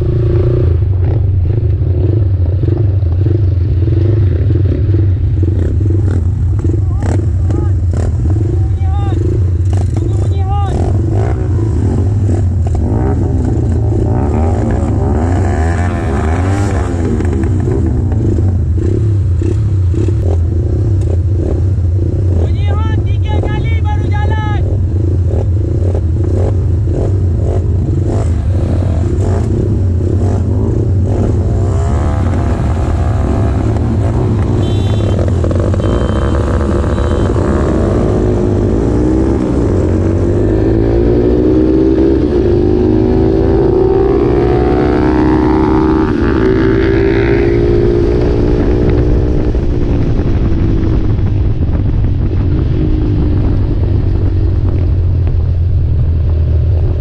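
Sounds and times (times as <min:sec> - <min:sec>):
motorcycle engine revving: 0:00.0 - 0:22.6, 0:24.6 - 0:57.0.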